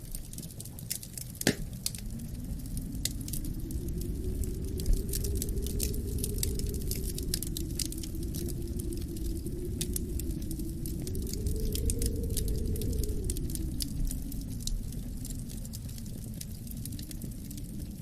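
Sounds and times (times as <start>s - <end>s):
low rush of wind: 0.0s - 18.0s
wood fire crackling: 0.0s - 18.0s.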